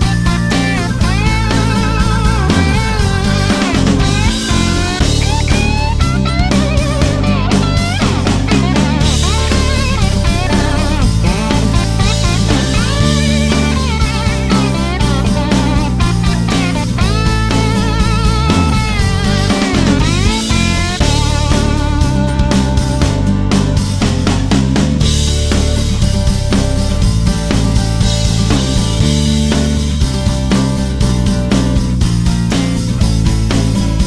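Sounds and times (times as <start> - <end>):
rock music: 0.0 - 34.0
wavering electric guitar: 0.0 - 34.0.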